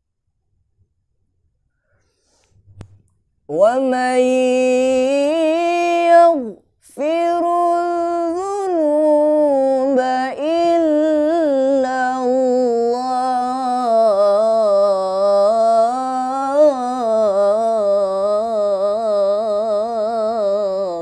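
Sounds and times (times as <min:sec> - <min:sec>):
man reciting melodically: 0:03.5 - 0:21.0.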